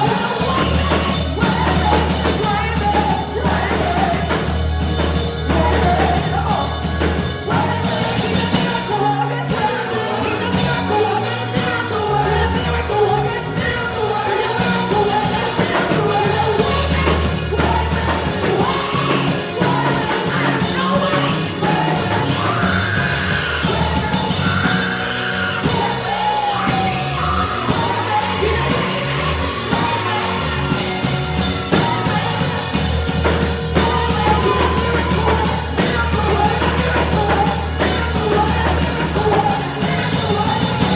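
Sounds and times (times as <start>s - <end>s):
worship band with singing: 0.0s - 40.9s.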